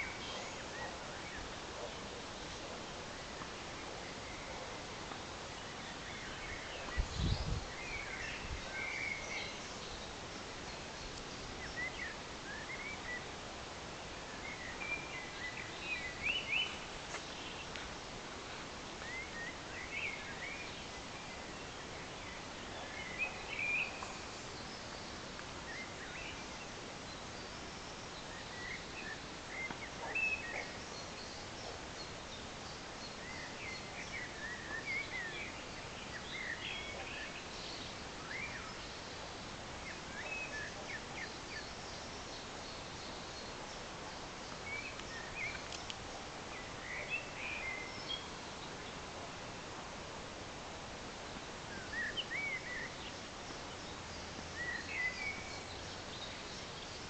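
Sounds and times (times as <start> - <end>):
outdoor background hiss: 0.0 - 57.0
small birds chirping: 0.0 - 57.0.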